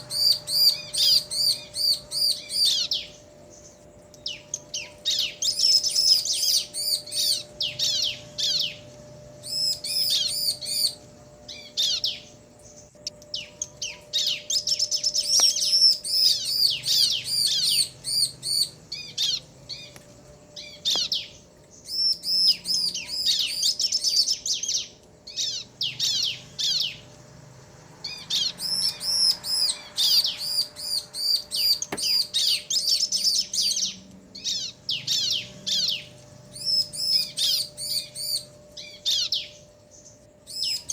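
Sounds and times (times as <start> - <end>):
birds chirping high and sharp: 0.0 - 40.9.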